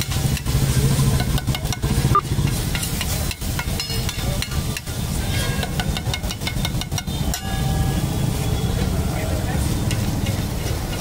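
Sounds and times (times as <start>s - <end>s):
metal ladle scraping on griddle: 0.0s - 8.9s
frying sizzle: 0.0s - 11.0s.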